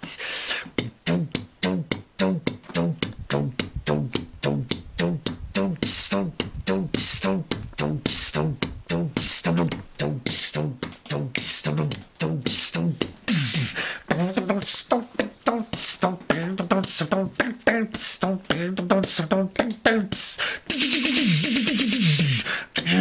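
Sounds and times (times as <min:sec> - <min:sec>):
man beatboxing: 0:00.0 - 0:23.0.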